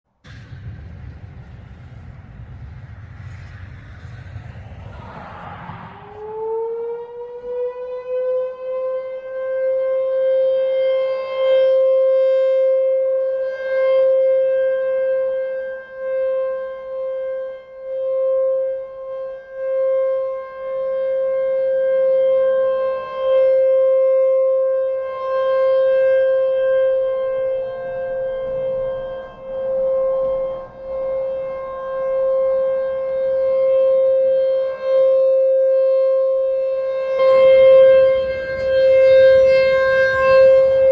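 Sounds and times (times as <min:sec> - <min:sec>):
rotating tornado siren: 0:00.3 - 0:40.9.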